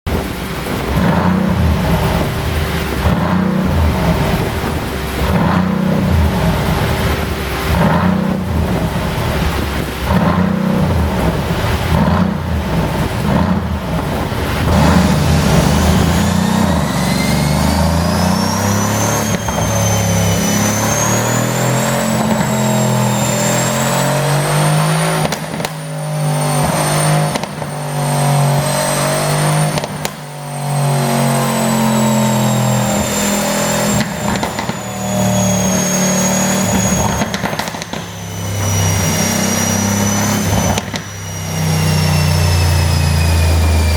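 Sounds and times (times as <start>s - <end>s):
car engine revving: 0.0s - 43.9s
exhaust pops: 0.0s - 43.9s
high whine: 0.1s - 43.9s.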